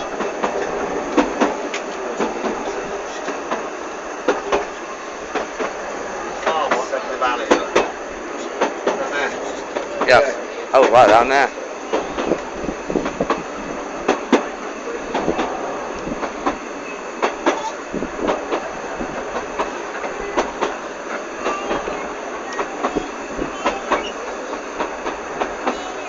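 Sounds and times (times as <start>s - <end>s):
train rattling along track: 0.0s - 26.0s.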